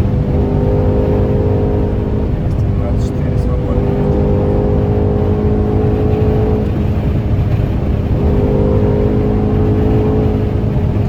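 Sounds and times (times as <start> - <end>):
car engine drone: 0.0 - 11.0
road rumble: 0.0 - 11.0.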